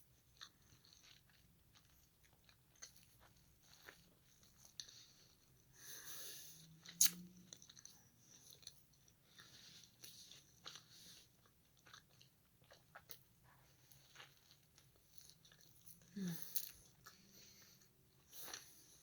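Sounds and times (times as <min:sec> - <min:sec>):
person chewing a hamburger: 0:00.0 - 0:19.0.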